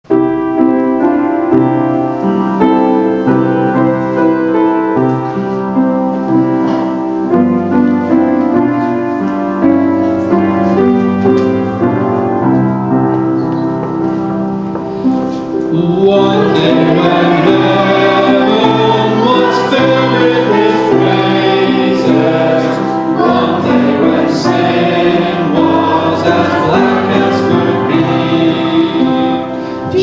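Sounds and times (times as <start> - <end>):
piano playing hymn chords: 0.0 - 30.0.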